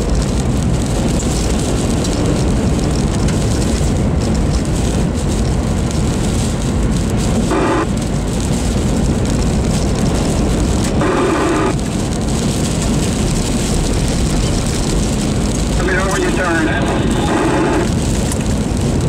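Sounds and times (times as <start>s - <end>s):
rain spattering on windshield: 0.0s - 19.0s
road noise inside moving car: 0.0s - 19.0s.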